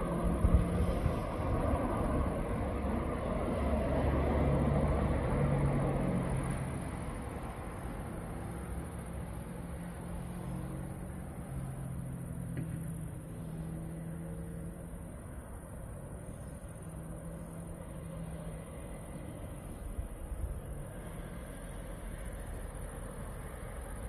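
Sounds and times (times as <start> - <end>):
distant city traffic rumble: 0.0 - 24.0
low engine-like hum: 0.0 - 24.0.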